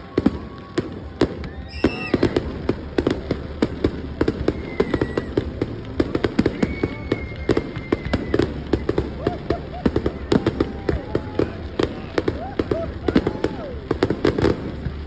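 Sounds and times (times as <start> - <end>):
firework whistle: 0.0 - 14.8
fireworks bangs and crackling: 0.0 - 15.0.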